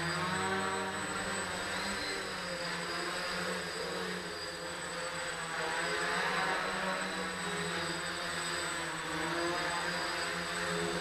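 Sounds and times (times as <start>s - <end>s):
quadcopter propellers buzzing: 0.0s - 11.0s.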